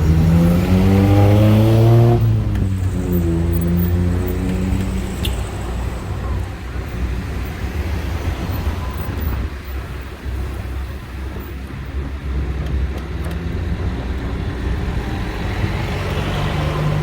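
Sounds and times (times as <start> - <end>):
bus engine running: 0.0 - 17.0
road noise: 0.0 - 17.0.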